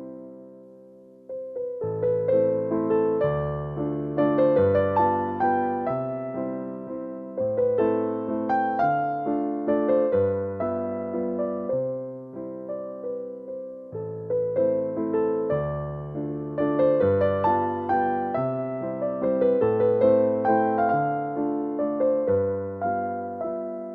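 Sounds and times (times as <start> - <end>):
gentle piano melody: 0.0 - 23.9.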